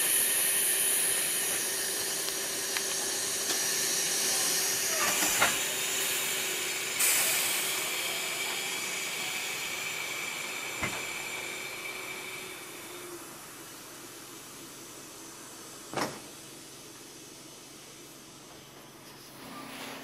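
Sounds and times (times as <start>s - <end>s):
train air and wheels rushing: 0.0s - 18.3s.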